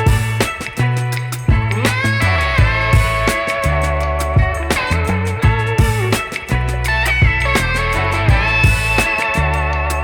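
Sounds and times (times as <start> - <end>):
guitar-led instrumental music: 0.0 - 10.0.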